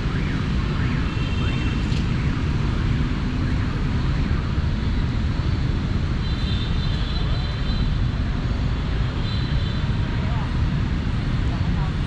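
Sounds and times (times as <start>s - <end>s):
city traffic drone: 0.0s - 12.0s.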